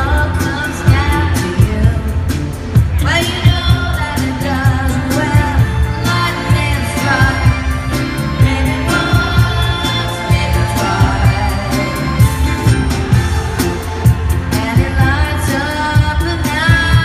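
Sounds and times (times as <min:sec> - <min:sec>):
bass: 0:00.0 - 0:17.0
keyboards: 0:00.0 - 0:17.0
woman singing: 0:00.0 - 0:17.0.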